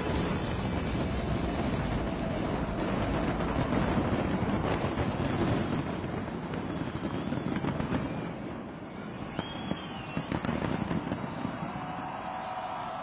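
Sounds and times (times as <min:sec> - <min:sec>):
fireworks bursts rumbling: 0:00.0 - 0:13.0
fireworks crackling: 0:00.0 - 0:13.0.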